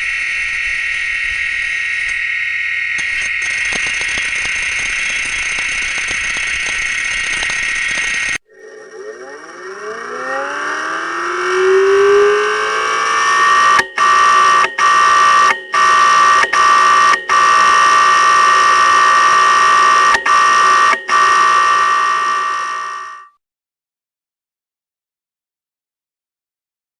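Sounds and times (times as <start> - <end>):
hard drive whine: 0.0 - 23.3.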